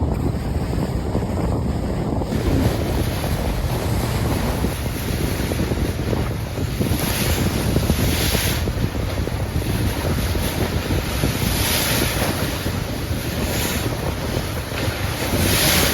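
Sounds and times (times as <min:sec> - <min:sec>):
water rushing at ship's bow: 0:00.0 - 0:15.9
wind buffeting microphone: 0:00.0 - 0:15.9.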